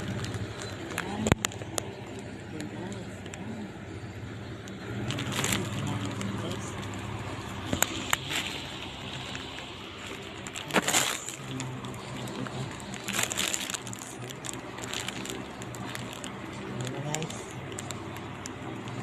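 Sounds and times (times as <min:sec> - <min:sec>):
crinkling bursts: 0:00.0 - 0:19.0
low steady hum: 0:00.0 - 0:19.0.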